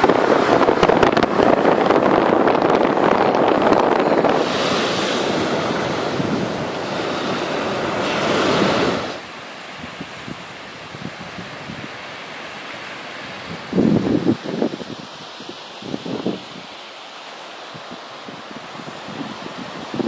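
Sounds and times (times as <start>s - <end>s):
wind buffeting microphone: 0.0s - 12.1s, 13.2s - 16.7s, 17.7s - 20.0s
surf washing onto sand: 0.0s - 20.0s.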